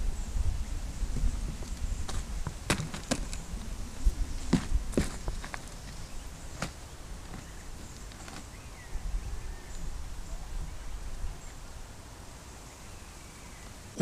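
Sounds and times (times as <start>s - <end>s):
wind rumble on microphone: 0.0s - 7.9s, 8.5s - 11.9s.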